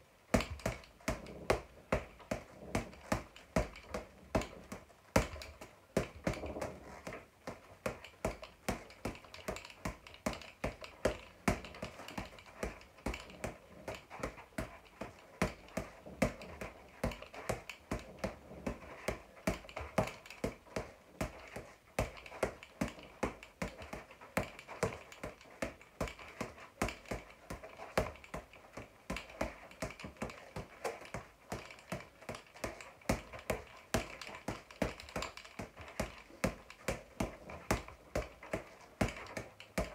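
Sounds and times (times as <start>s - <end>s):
boxing gloves hitting a ball: 0.3s - 39.9s.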